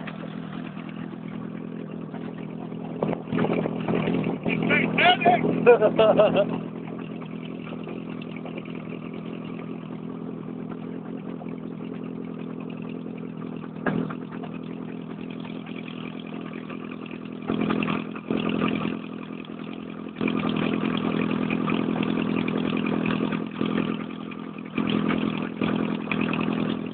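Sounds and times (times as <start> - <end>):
boat engine running: 0.0 - 26.9.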